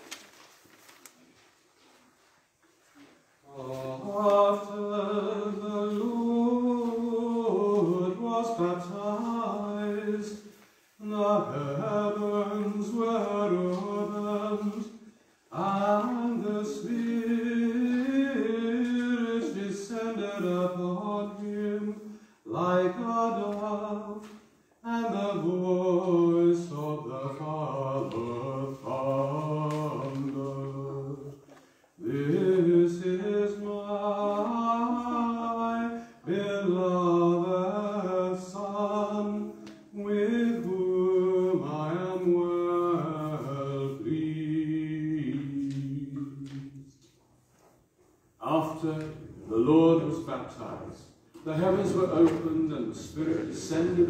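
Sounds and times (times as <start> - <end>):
person singing a chant: 3.4 - 31.4, 32.0 - 46.9, 48.4 - 50.9, 51.5 - 54.0.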